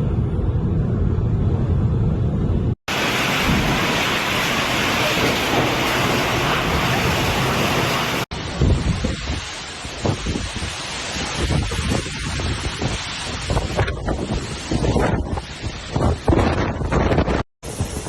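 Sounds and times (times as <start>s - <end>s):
wind rumble on microphone: 0.0s - 18.0s
heavy rain pouring: 2.9s - 18.0s.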